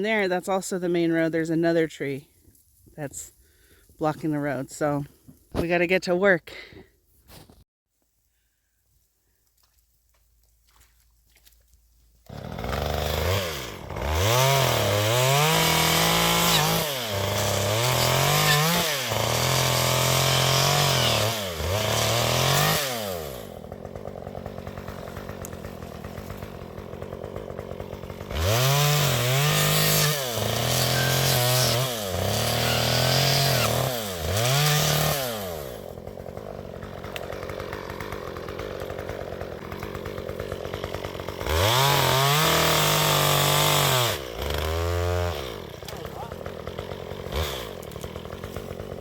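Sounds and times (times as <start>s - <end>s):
chainsaw revving and cutting wood: 0.0s - 2.3s, 3.0s - 7.0s, 12.2s - 49.0s.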